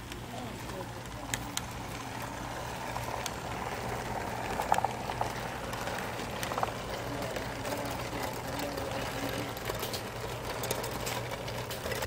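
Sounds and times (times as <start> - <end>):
model train rumbling on track: 0.0 - 12.0.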